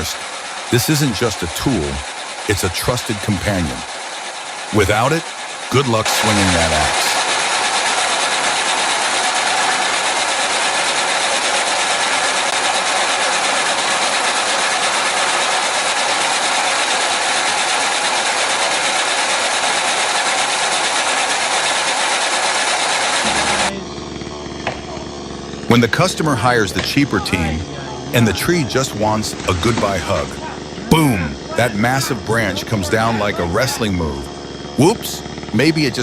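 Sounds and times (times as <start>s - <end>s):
machine running loudly: 0.0s - 36.0s.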